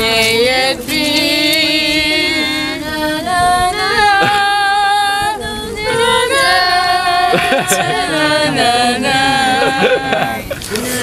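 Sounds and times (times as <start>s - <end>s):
people singing slow song: 0.0s - 11.0s.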